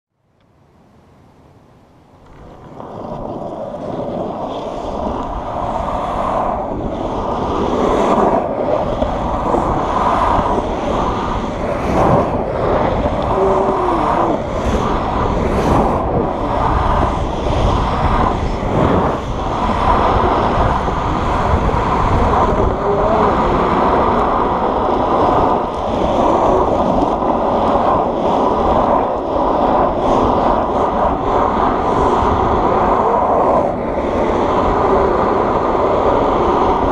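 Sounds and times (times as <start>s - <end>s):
skateboard wheels rolling on asphalt: 0.2s - 36.9s
wind buffeting microphone: 2.1s - 36.9s.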